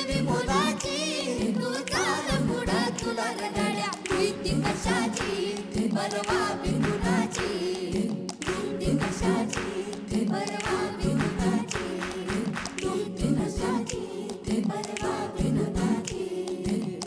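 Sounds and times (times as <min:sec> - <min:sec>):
children singing: 0:00.0 - 0:17.0
percussion beat: 0:00.0 - 0:17.0.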